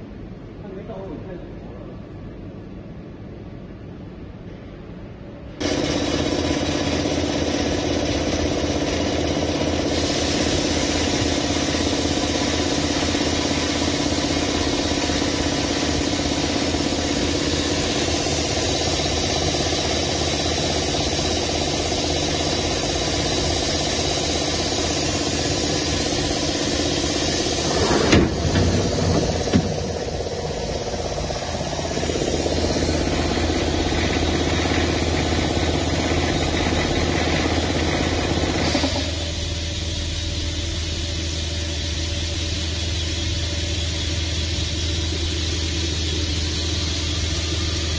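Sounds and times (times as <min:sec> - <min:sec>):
lathe machine hum: 0:05.6 - 0:47.9.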